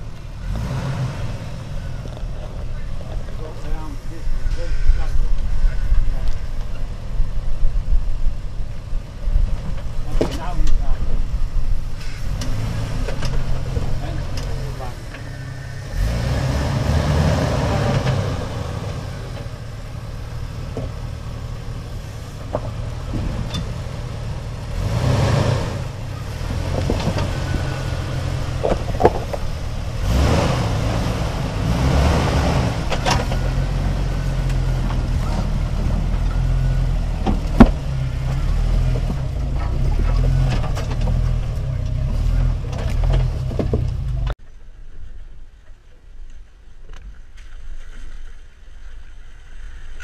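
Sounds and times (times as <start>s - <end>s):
engine revving at low revs: 0.0s - 44.4s.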